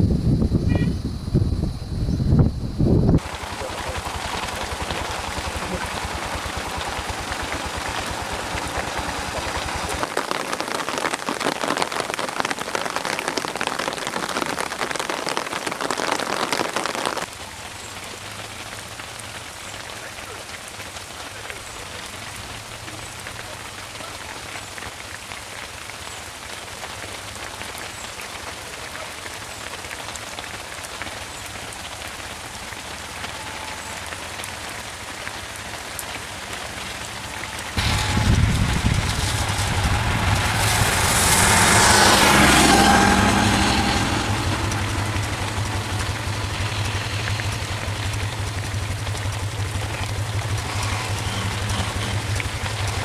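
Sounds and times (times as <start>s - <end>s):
rain pattering: 3.1s - 53.0s.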